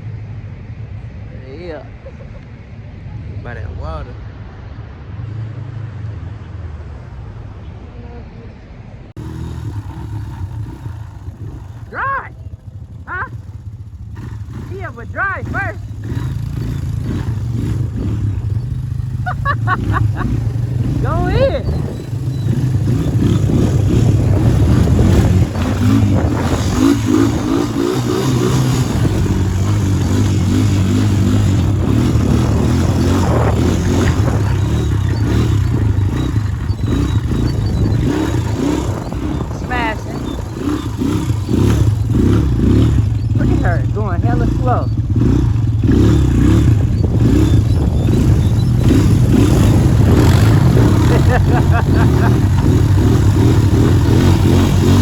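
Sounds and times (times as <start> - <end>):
atv engine revving: 9.1 - 55.0.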